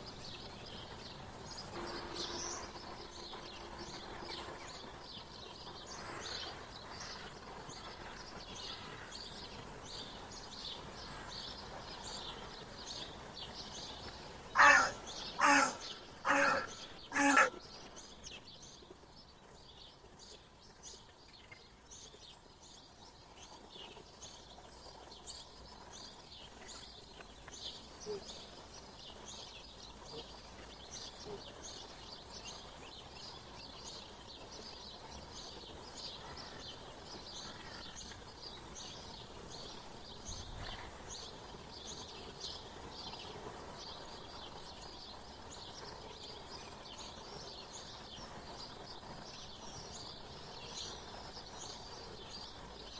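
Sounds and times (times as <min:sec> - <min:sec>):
faint steady hiss: 0:00.0 - 0:52.9
small birds chirping: 0:00.0 - 0:52.9.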